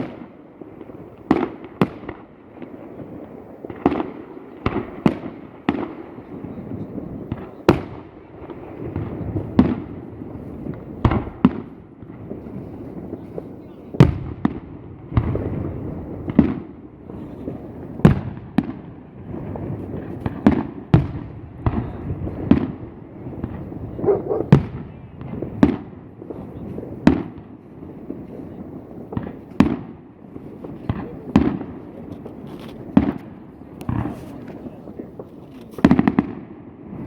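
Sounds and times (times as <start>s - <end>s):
firework bangs echoing: 0.0s - 37.0s.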